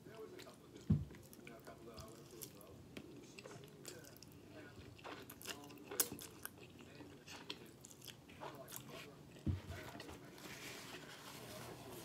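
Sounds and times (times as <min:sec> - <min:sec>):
person chewing pasta: 0:00.1 - 0:10.1.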